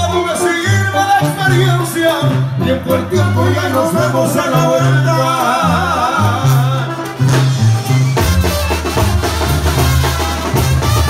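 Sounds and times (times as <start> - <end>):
live brass band music: 0.0 - 11.0
tuba bass line: 0.0 - 11.0.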